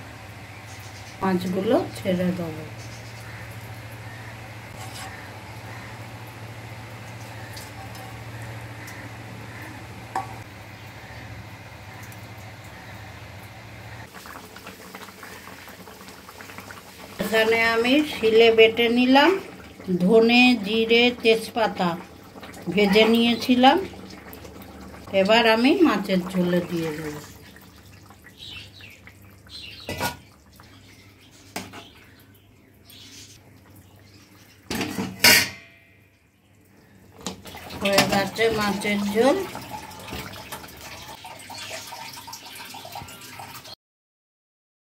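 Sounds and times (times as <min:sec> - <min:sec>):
curry bubbling in a metal pot: 0:00.6 - 0:35.6, 0:36.2 - 0:43.7.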